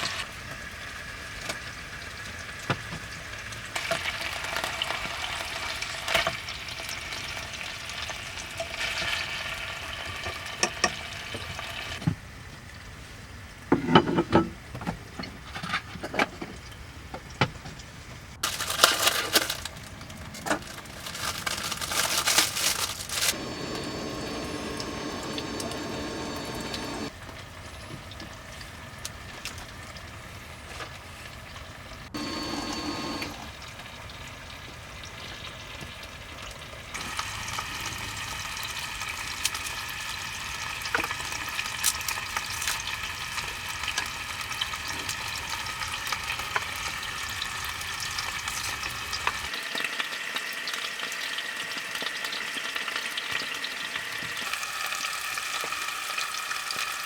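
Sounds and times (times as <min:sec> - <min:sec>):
food sizzling in a pan: 0:00.0 - 0:12.1, 0:18.4 - 0:57.0.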